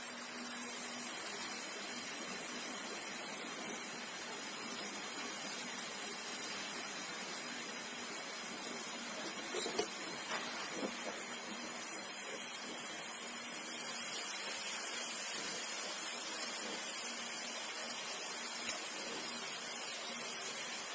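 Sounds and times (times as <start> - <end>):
torch flame hissing: 0.0 - 20.9.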